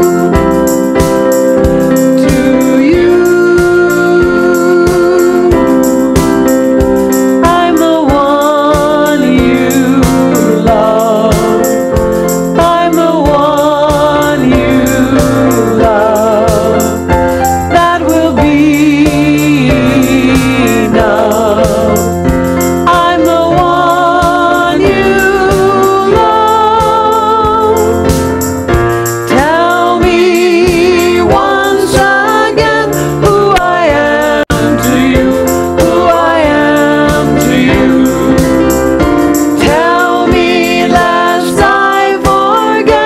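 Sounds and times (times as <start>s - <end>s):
keyboard accompaniment: 0.0s - 43.0s
woman singing with vibrato: 1.9s - 6.1s, 7.3s - 11.8s, 12.5s - 22.1s, 22.8s - 28.1s, 29.3s - 38.7s, 39.6s - 43.0s.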